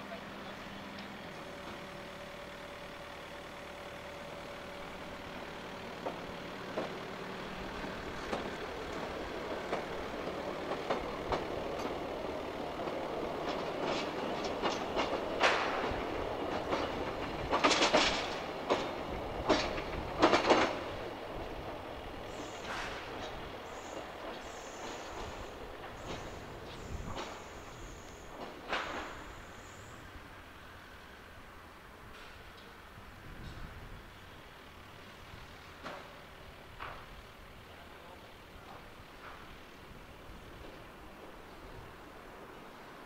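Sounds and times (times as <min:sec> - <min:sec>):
wheels rumbling on rail: 0:00.0 - 0:43.0
wheels clacking over rail joints: 0:00.2 - 0:43.0.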